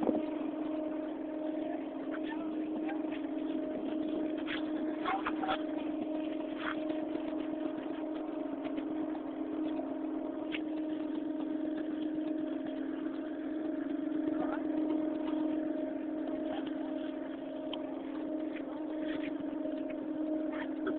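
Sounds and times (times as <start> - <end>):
motor humming steadily: 0.0 - 20.9.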